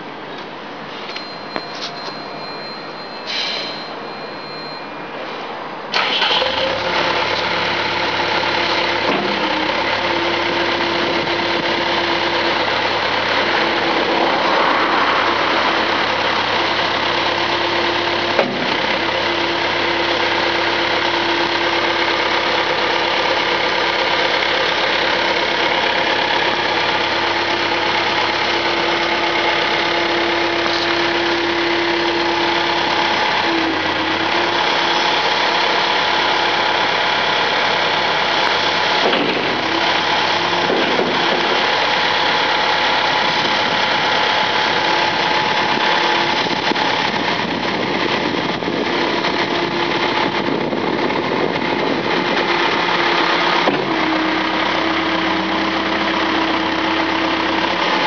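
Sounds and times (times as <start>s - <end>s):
diesel engine running: 0.0s - 58.0s
hydraulic whine: 5.9s - 58.0s.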